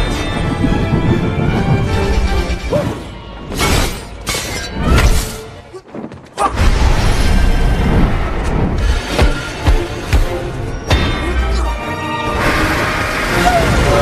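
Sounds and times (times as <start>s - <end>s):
dramatic score music: 0.0s - 14.0s.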